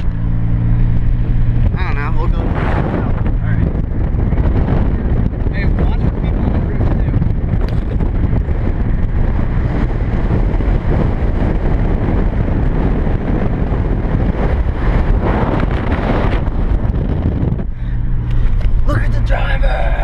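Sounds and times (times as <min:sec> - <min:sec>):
road noise rumble: 0:00.0 - 0:20.0
wind buffeting microphone: 0:00.0 - 0:20.0.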